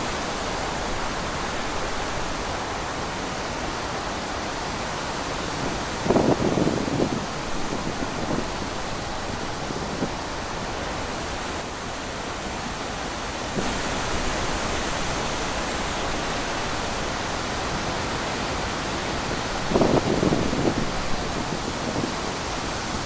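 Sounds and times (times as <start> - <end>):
rushing wind: 0.0 - 23.0.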